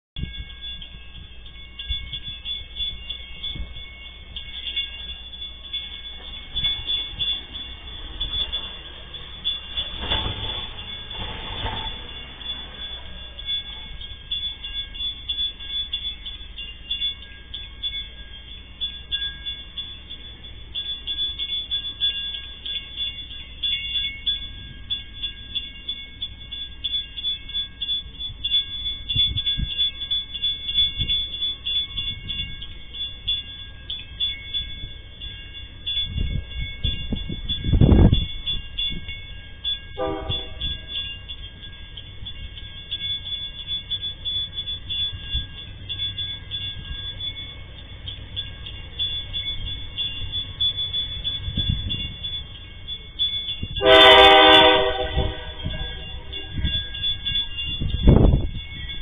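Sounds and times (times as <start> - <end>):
diesel locomotive rumbling: 0.2 - 59.0
steady high-pitched tones: 0.2 - 59.0.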